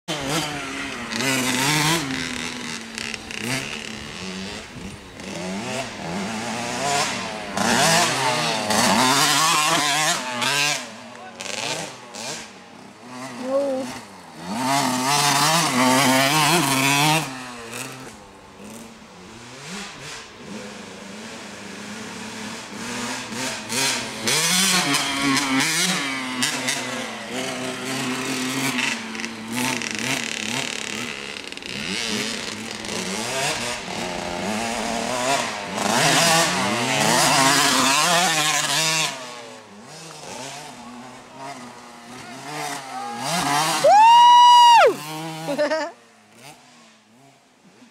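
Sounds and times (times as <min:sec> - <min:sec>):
two-stroke dirt bike engine revving: 0:00.1 - 0:47.9.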